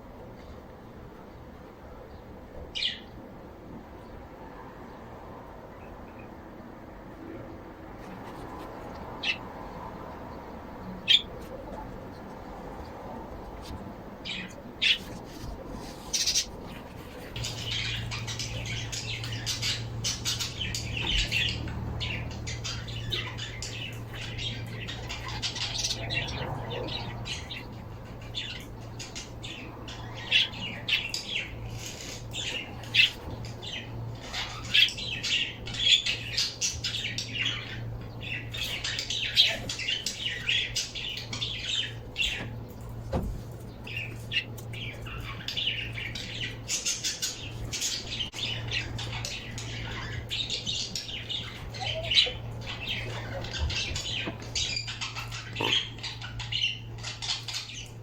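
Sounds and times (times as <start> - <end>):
pet birds chirping and squawking: 2.1 - 4.3, 7.9 - 58.0.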